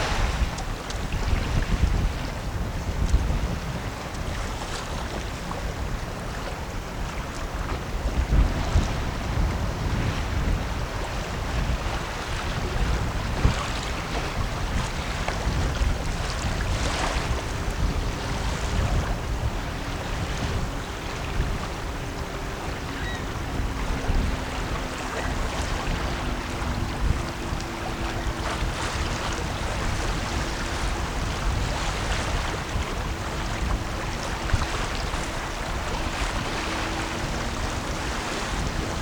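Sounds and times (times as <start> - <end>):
faint boat engine hum: 0.0 - 39.0
wind buffeting microphone: 0.0 - 39.0.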